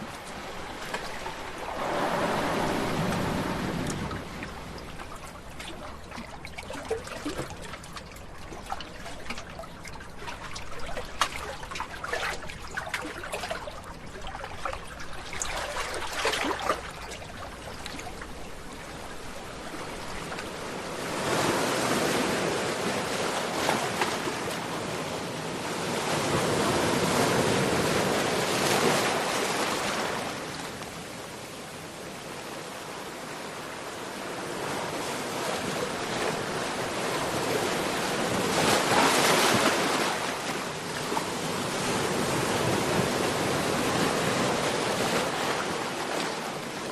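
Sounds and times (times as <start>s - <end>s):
sea water trickling and splashing: 0.0s - 46.9s
waves surging and washing out: 0.0s - 46.9s.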